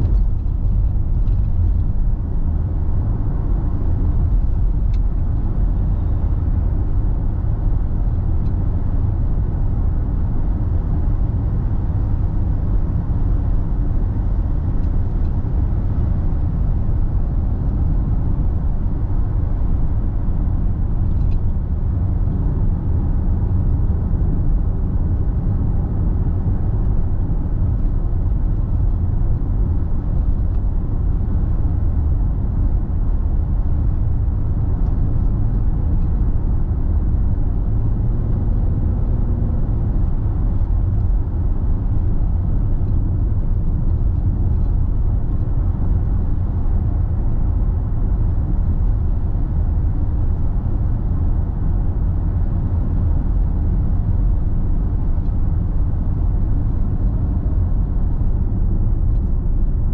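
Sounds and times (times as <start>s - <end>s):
car driving steadily: 0.0s - 59.9s.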